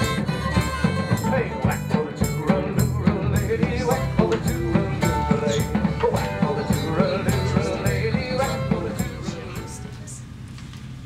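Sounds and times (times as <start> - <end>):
steady drum beat: 0.0 - 9.9.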